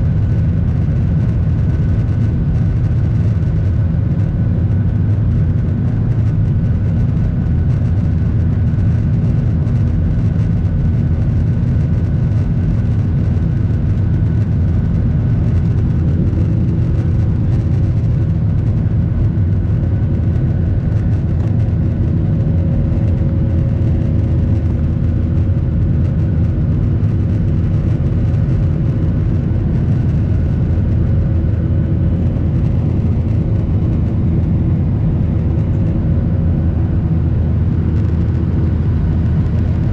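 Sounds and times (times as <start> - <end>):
faint whining tones: 0.0 - 39.9
jet engine drone in cabin: 0.0 - 39.9.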